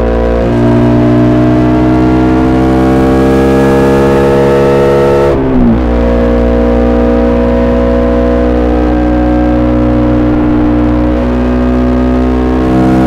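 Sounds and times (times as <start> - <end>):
motorcycle engine revving under load: 0.0 - 13.0.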